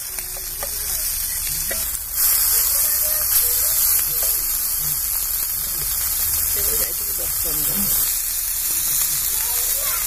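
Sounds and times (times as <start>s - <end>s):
fish sizzling in hot oil: 0.0s - 10.0s
metal spatula turning fish: 0.0s - 10.0s.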